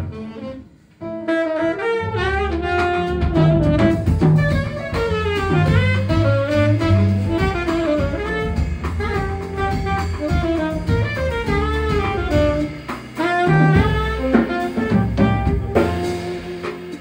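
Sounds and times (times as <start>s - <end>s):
bass: 0.0s - 17.0s
drums: 0.0s - 17.0s
saxophone melody: 0.0s - 17.0s.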